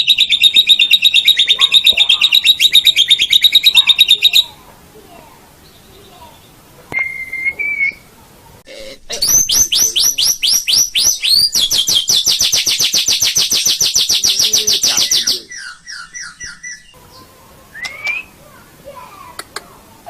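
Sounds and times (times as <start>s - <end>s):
songbird whistling and trilling: 0.0s - 4.5s, 5.6s - 8.1s, 9.2s - 18.4s.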